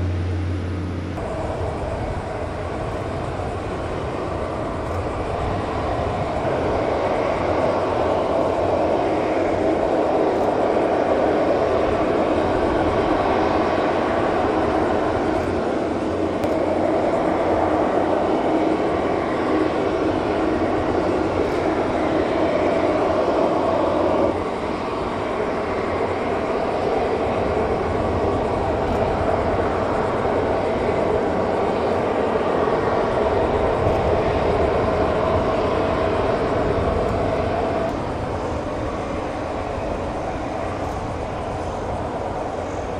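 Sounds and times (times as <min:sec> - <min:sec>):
steady rumbling noise: 0:00.0 - 0:42.9.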